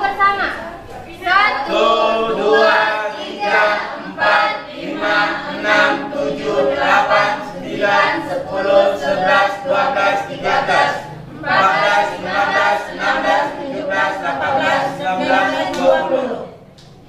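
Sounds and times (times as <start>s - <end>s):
group counting aloud in unison: 1.2s - 16.6s.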